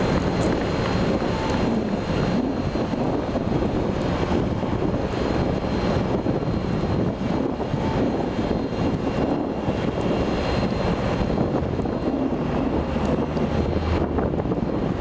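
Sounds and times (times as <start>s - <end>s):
ship diesel engines droning: 0.0s - 15.0s.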